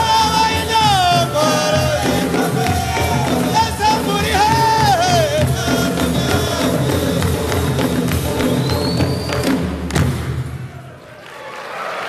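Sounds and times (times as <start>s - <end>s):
quick drum beats: 0.0s - 10.7s.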